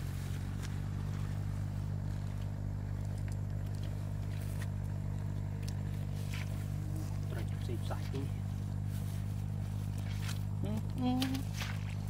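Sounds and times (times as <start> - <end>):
rustles in wet grass: 0.0 - 12.0
steady low hum: 0.0 - 12.0.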